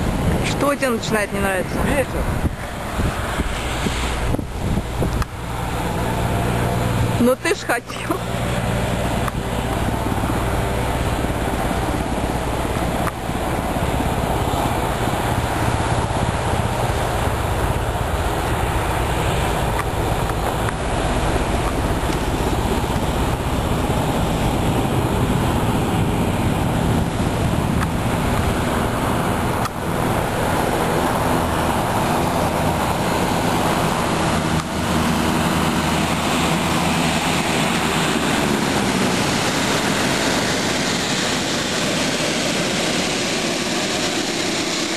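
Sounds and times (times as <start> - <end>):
light aircraft engine and propeller drone: 0.0 - 44.9.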